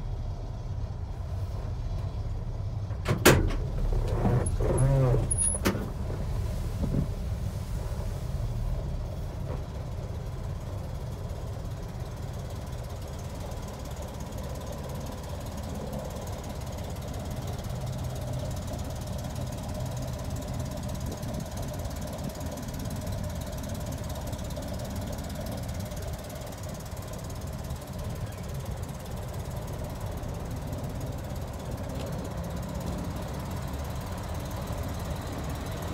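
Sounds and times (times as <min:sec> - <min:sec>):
van engine rumbling: 0:00.0 - 0:35.9.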